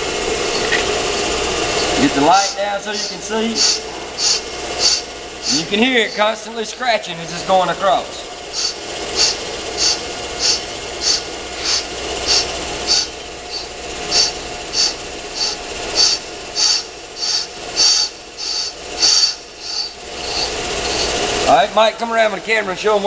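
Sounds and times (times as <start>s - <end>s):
lathe bit scratching brake drum: 0.0s - 23.0s
lathe running: 0.0s - 23.0s.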